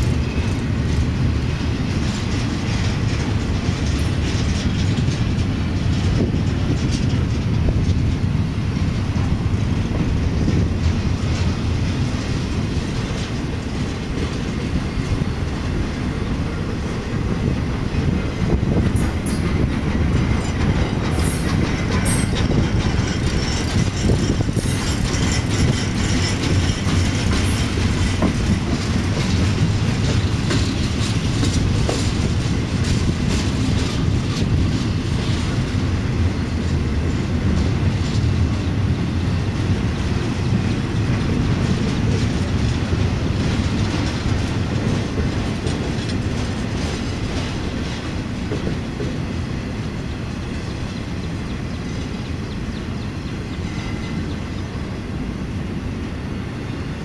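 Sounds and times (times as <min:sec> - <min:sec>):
clicking over rail joints: 0:00.0 - 0:51.5
freight train wheels rumbling: 0:00.0 - 0:57.0.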